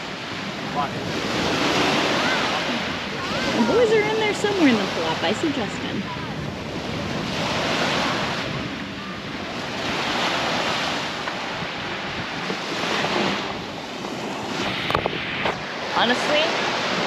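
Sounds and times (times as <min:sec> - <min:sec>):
small waves washing onto sand: 0:00.0 - 0:17.0
wind buffeting microphone: 0:00.0 - 0:17.0.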